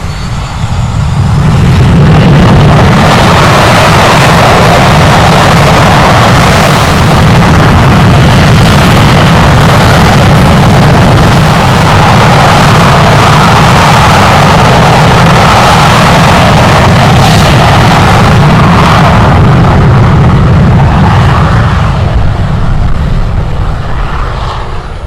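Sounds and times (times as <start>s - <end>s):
jet engines at takeoff power: 0.0s - 25.0s.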